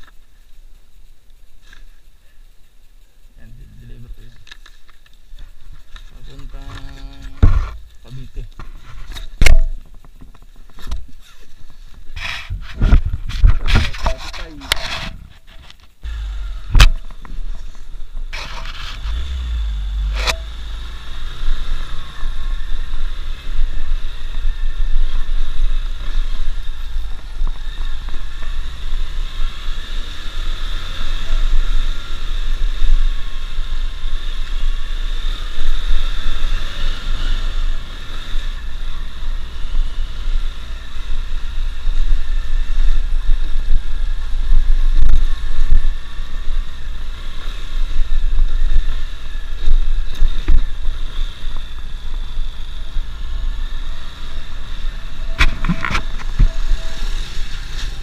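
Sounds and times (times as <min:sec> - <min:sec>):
motorcycle engine running: 0:05.3 - 0:58.0
wind on microphone: 0:07.0 - 0:58.0.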